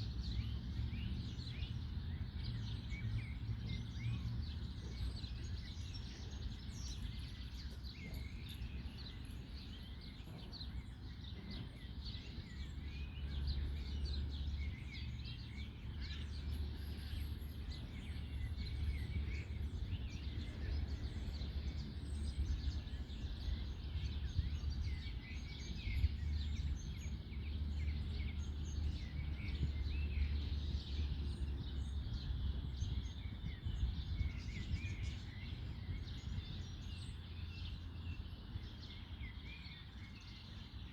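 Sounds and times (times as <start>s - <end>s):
low background rumble: 0.0s - 40.8s
birds singing and chirping: 0.0s - 40.9s.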